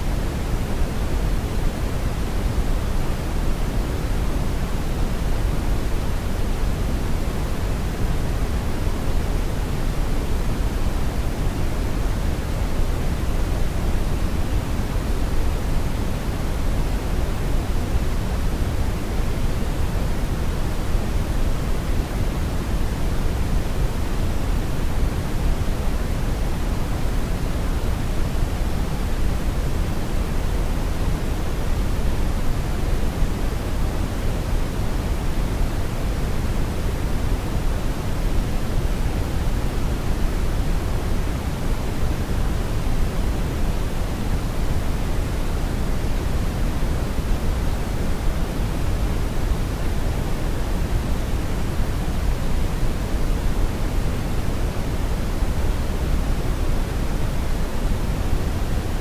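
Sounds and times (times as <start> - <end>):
brown noise rumbling hiss: 0.0 - 59.0.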